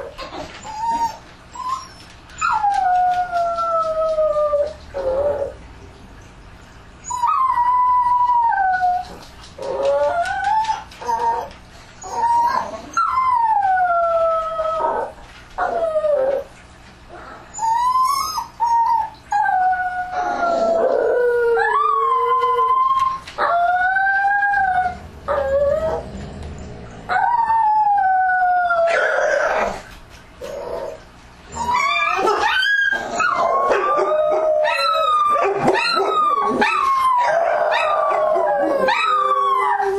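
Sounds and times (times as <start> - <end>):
dogs howling: 0.0 - 5.6, 7.0 - 16.5, 17.1 - 39.9.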